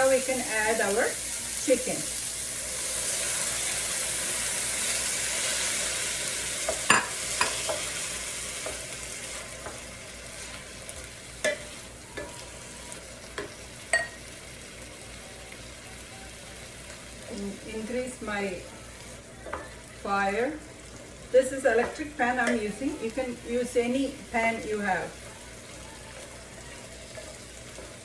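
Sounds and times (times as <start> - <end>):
chicken sizzling in a skillet: 0.0 - 28.0.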